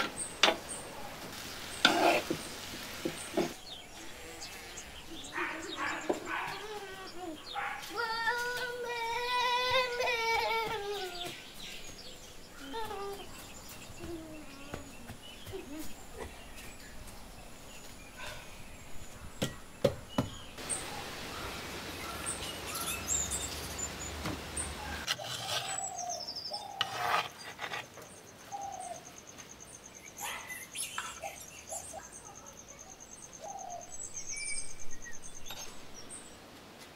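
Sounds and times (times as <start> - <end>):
birds chirping: 0.0 - 36.6.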